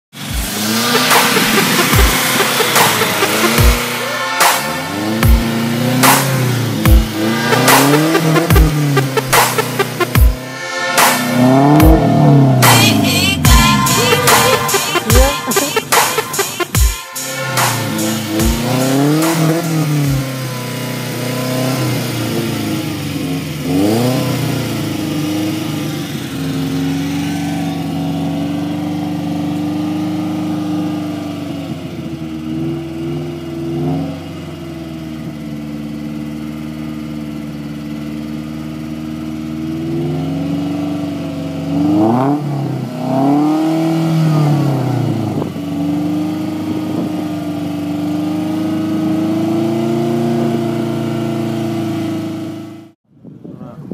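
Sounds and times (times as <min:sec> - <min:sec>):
car engine revving: 0:00.1 - 0:53.0.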